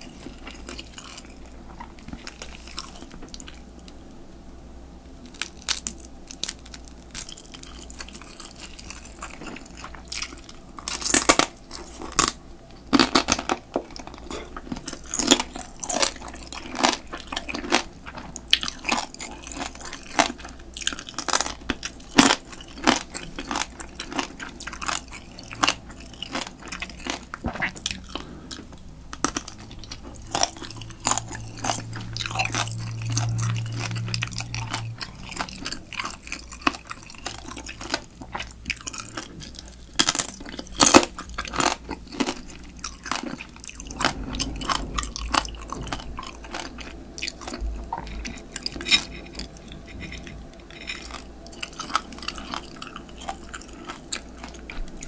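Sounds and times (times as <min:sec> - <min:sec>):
crab shell crunching: 0:05.2 - 0:55.0
wet chewing: 0:05.3 - 0:55.0.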